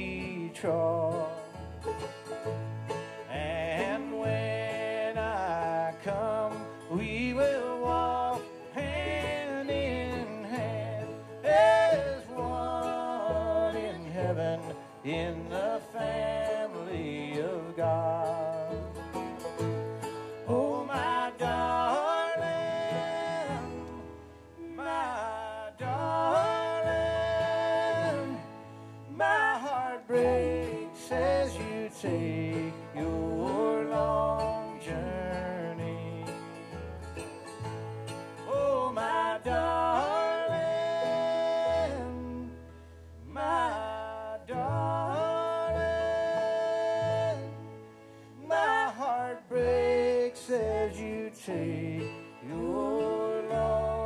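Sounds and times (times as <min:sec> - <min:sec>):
acoustic guitar: 0:00.0 - 0:54.0
mandolin lead line: 0:00.0 - 0:54.0
upright bass: 0:00.0 - 0:54.0.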